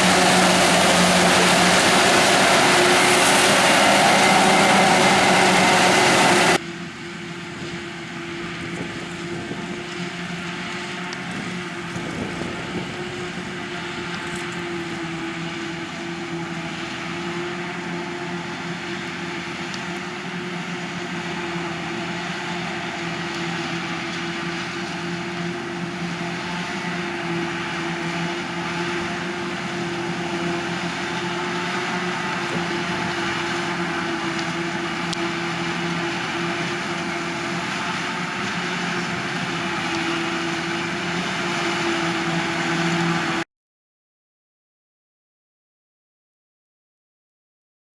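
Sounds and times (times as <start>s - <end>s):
farm machinery engine drone: 0.0s - 43.4s.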